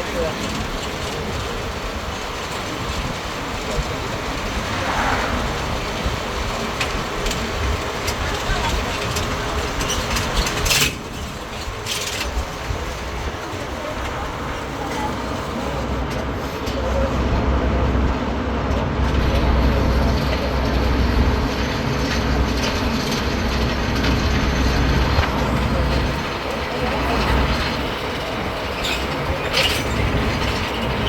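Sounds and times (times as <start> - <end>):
road train engine and road rumble: 0.0 - 31.0.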